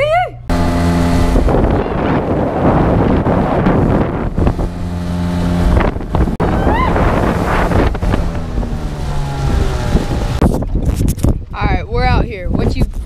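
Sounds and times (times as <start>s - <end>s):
outboard motor humming: 0.4s - 11.6s
wind buffeting microphone: 0.5s - 13.0s.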